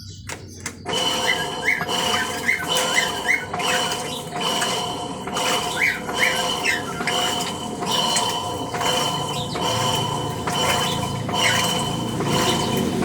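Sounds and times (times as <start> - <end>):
motor bearing tones: 0.0 - 13.0
electric motor running: 0.3 - 13.0.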